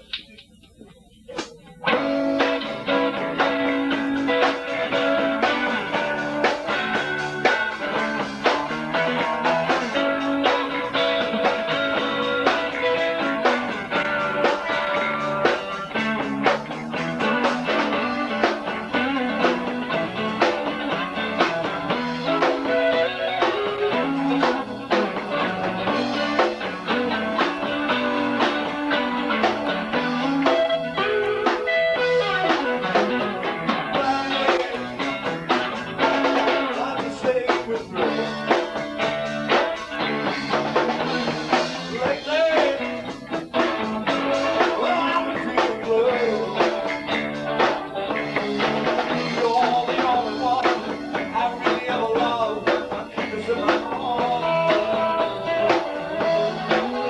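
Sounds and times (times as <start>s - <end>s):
bass guitar: 0.0s - 57.0s
guitar: 0.0s - 57.0s
drum kit: 1.3s - 57.0s.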